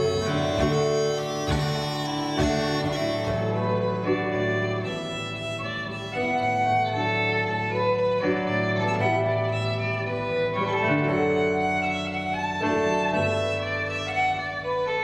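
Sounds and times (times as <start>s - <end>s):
fiddle melody: 0.0s - 15.0s.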